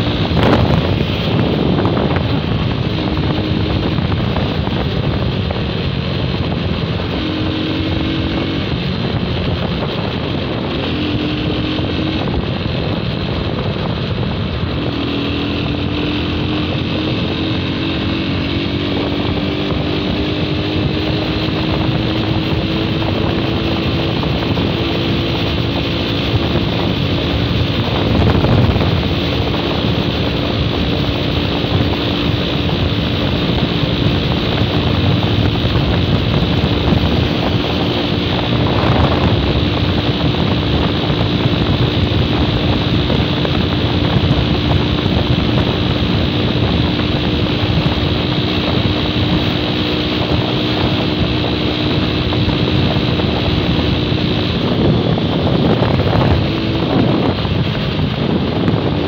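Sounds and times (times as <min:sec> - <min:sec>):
motorcycle engine cruising: 0:00.0 - 0:59.0
wind noise on microphone: 0:00.0 - 0:59.0.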